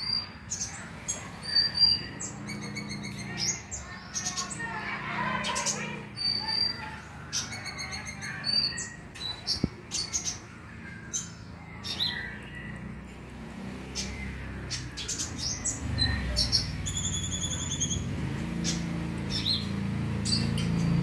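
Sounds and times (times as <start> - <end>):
bird chirping and trilling: 0.0 - 21.0.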